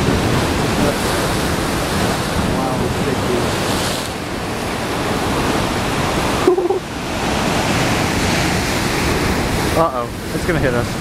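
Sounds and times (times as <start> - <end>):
ocean surf on rocky shore: 0.0 - 11.0.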